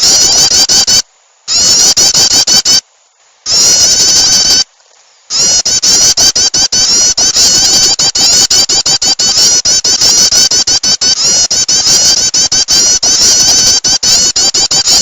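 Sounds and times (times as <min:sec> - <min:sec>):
prinia chattering call: 0:00.0 - 0:02.8, 0:03.4 - 0:04.7, 0:05.3 - 0:15.0.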